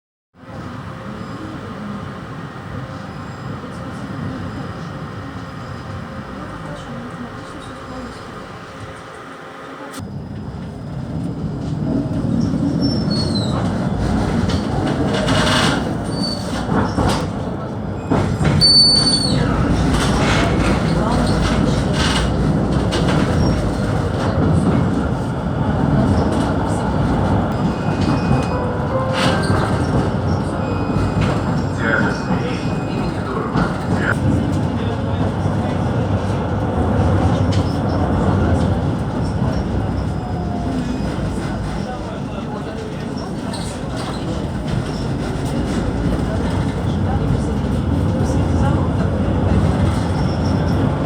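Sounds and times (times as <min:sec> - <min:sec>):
tram wheels and motor rumbling: 0:00.4 - 0:51.0.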